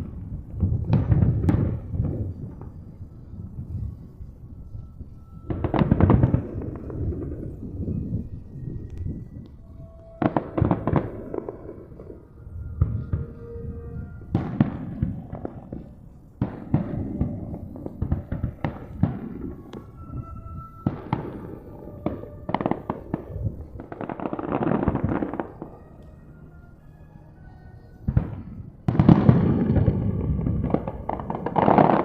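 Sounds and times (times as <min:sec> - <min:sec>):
fireworks booming: 0:00.0 - 0:26.2, 0:28.0 - 0:32.0
fireworks crackling: 0:00.0 - 0:32.0.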